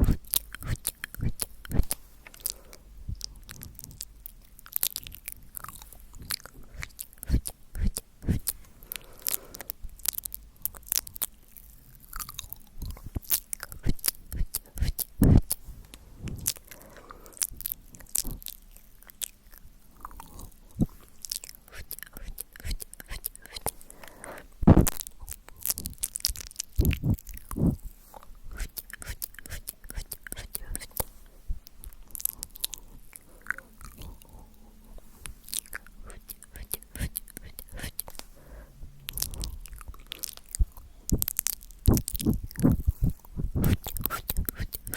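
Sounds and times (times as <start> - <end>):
soft breathing: 0.0 - 4.1, 5.2 - 9.9, 12.6 - 18.5, 20.0 - 24.7, 26.8 - 44.9
wet lip and tongue clicks: 0.0 - 34.4, 35.2 - 38.4, 39.0 - 44.9.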